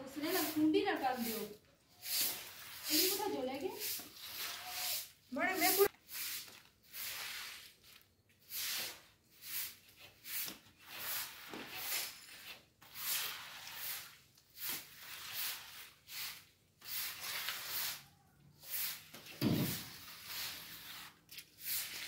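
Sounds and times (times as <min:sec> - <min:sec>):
broom sweeping wet leaves: 0:00.1 - 0:22.0.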